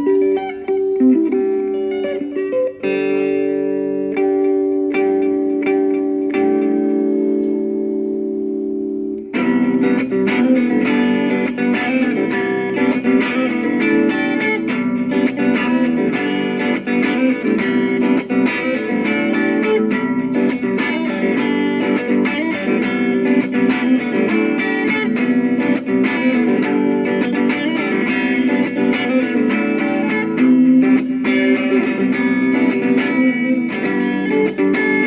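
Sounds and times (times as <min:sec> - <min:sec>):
guitar plucked and strummed: 0:00.0 - 0:35.0.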